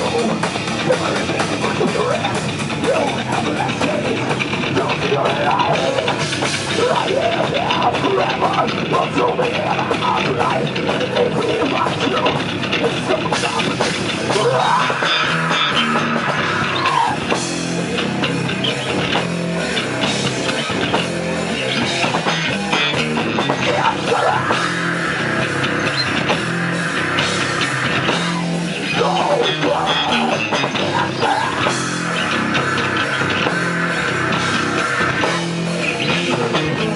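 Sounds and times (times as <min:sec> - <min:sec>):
heavy metal band playing live: 0:00.0 - 0:36.9
high sliding guitar line: 0:00.0 - 0:36.9.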